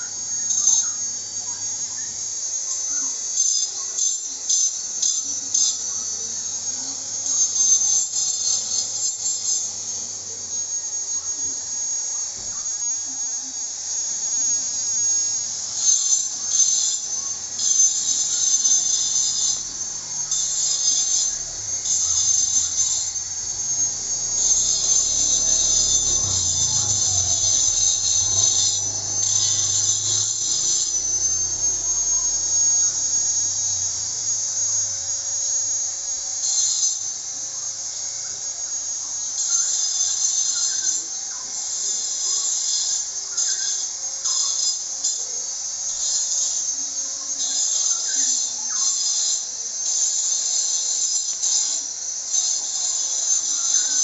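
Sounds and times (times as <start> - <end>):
grinding machine whine: 0.0 - 54.0
harsh grinding hiss: 0.0 - 54.0.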